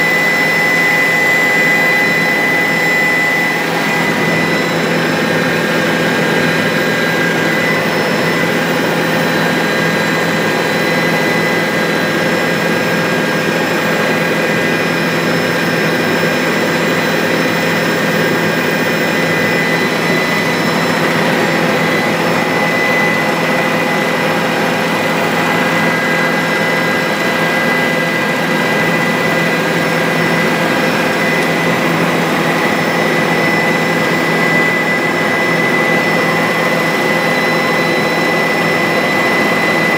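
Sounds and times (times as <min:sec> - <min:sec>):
helicopter turbine and rotor noise: 0:00.0 - 0:39.9.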